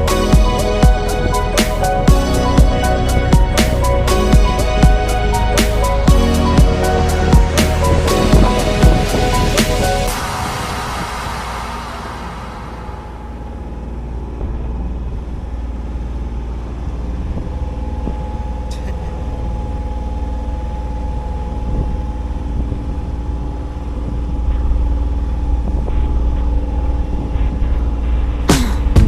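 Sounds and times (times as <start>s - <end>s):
engine rumbling: 0.0s - 29.0s
steady hum: 0.0s - 29.0s.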